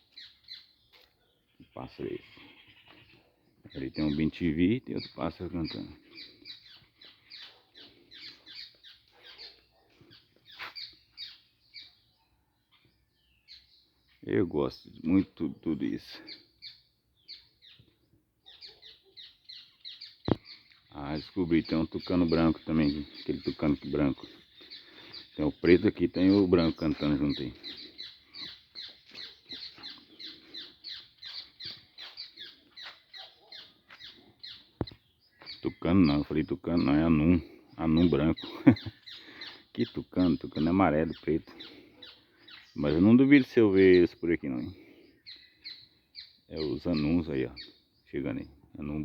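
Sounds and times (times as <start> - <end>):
birds calling: 0.0 - 49.0.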